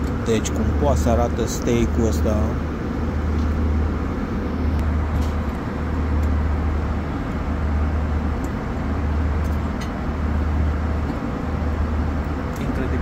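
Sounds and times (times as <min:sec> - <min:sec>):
airliner cabin hum: 0:00.0 - 0:13.0.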